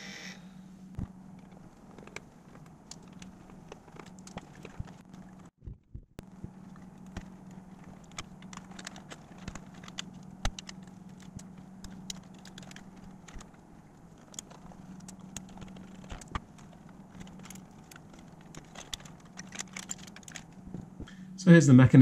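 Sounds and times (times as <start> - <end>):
steady low hum: 0.0 - 22.0
wires and connectors rattling: 1.0 - 21.1.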